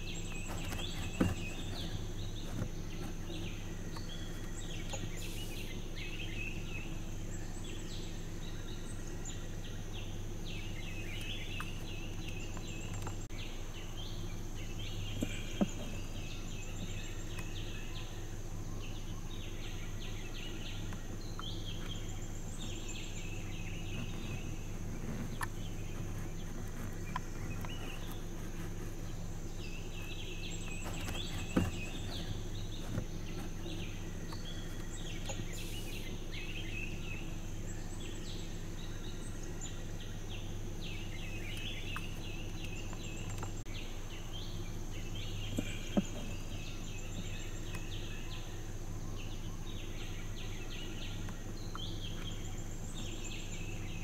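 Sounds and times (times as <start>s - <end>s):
birds chattering: 0.0s - 54.0s
steady low hum: 0.0s - 54.0s.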